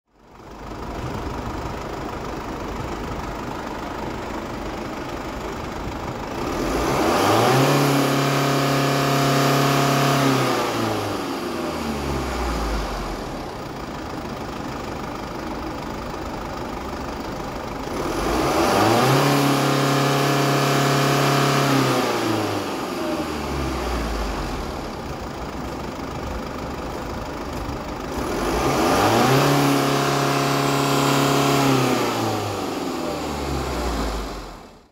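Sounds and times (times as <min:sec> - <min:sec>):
diesel engine idling and revving: 0:00.1 - 0:34.9.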